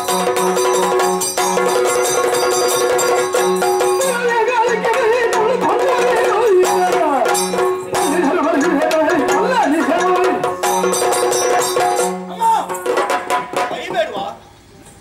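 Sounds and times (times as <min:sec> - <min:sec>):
drum strokes: 0:00.0 - 0:14.4.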